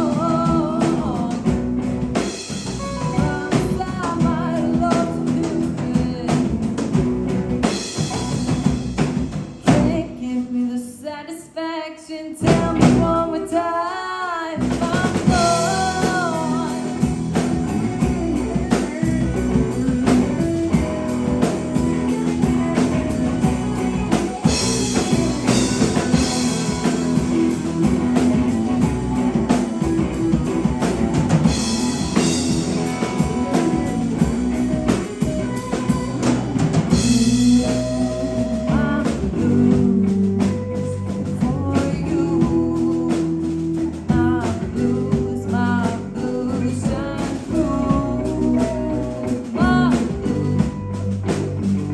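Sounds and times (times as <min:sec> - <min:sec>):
drum kit: 0:00.0 - 0:10.2, 0:12.4 - 0:51.9
bass guitar: 0:00.0 - 0:10.4, 0:12.4 - 0:13.8, 0:14.6 - 0:51.9
electric guitars: 0:00.0 - 0:10.4, 0:12.4 - 0:51.9.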